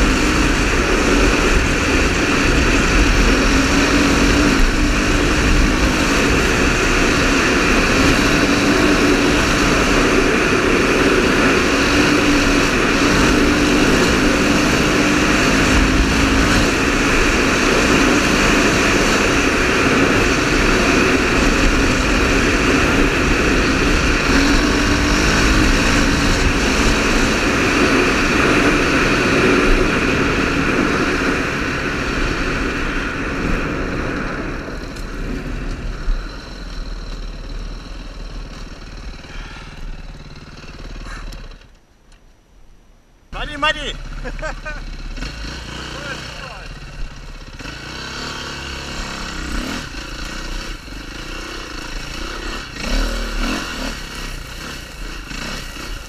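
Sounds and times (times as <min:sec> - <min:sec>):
motorcycle engine running: 0:00.0 - 0:41.9, 0:43.4 - 0:56.0.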